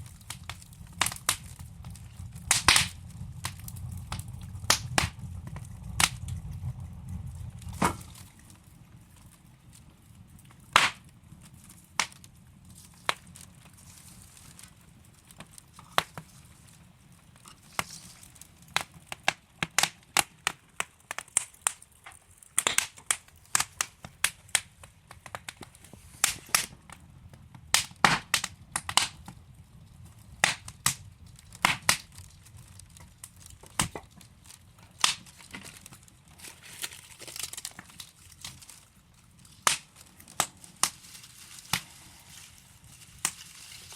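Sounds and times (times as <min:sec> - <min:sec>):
logs crackling and popping: 0:00.0 - 0:43.9
low rumble of flames: 0:00.0 - 0:43.9.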